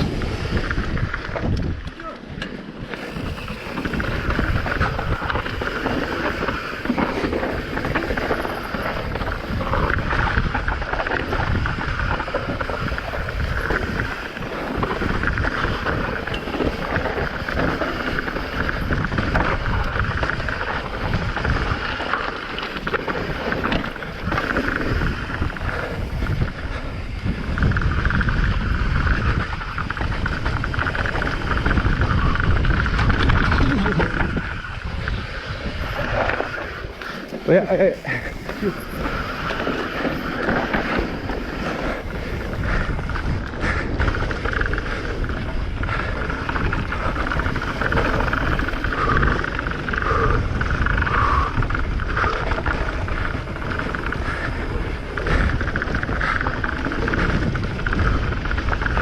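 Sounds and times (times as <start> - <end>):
bike rattle and tyre noise: 0.0 - 59.0
wind buffeting microphone: 0.0 - 59.0.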